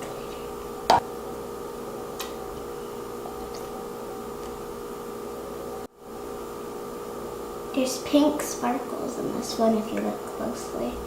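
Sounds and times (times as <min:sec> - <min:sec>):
electrical hum: 0:00.0 - 0:11.0
room hiss: 0:00.0 - 0:11.0.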